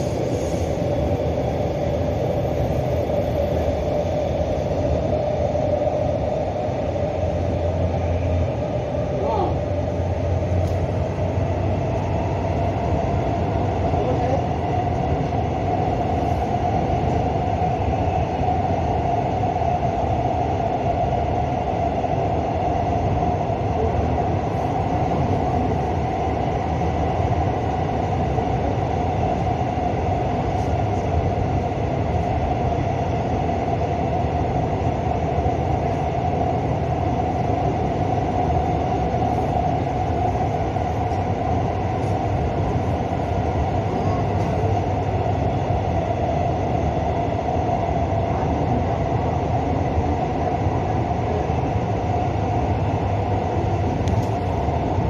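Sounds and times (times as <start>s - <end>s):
steady whine: 0.0s - 55.0s
train wheels rumbling on rails: 0.0s - 55.0s.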